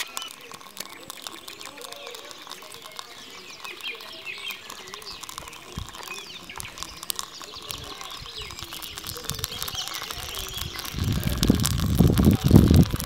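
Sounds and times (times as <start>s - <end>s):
birds chirping: 0.0s - 13.0s
small clicks and crackles: 0.0s - 13.0s.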